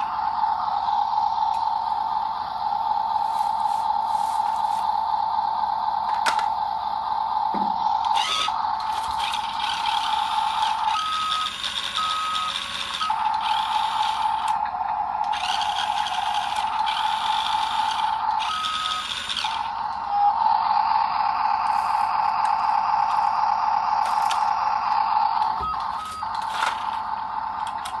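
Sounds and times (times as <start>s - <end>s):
toy truck motor whine: 0.0s - 28.0s.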